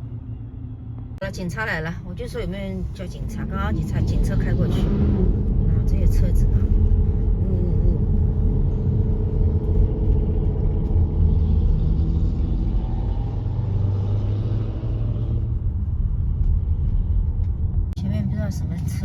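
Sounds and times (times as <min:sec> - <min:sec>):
car engines rumbling in traffic: 0:00.0 - 0:19.0.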